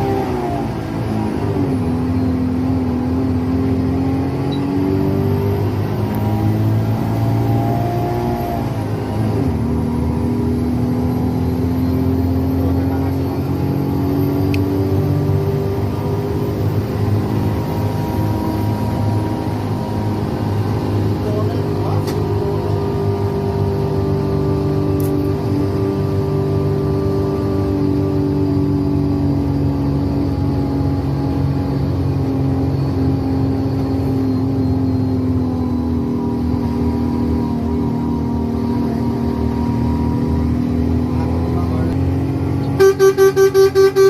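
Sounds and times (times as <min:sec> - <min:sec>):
bus engine drone and whine: 0:00.0 - 0:44.0.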